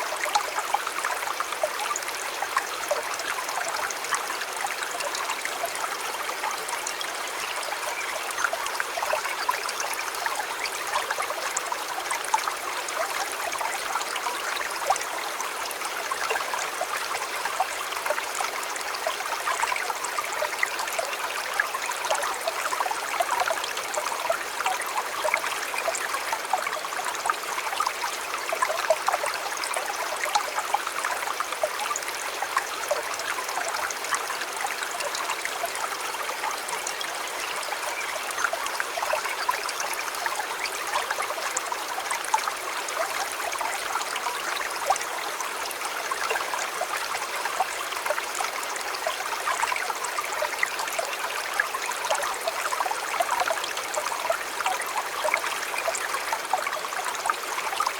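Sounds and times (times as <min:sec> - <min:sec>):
stream babbling over stones: 0:00.0 - 0:57.9.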